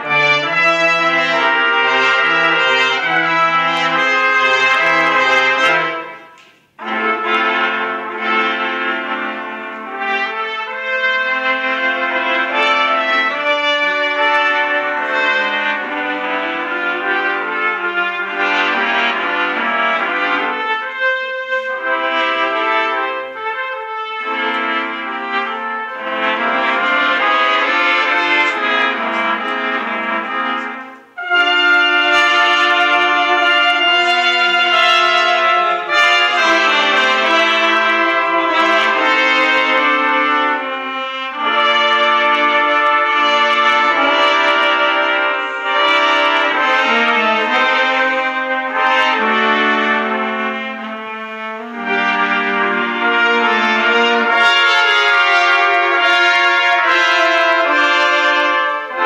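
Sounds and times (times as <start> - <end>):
brass ensemble playing chords: 0.0 - 59.0.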